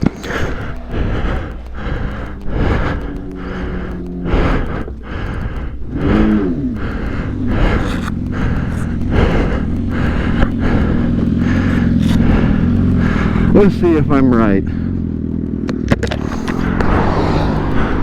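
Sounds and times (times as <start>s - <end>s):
rushing noise: 0.0s - 14.0s, 15.9s - 18.0s
motorcycle engine revving: 0.0s - 18.0s.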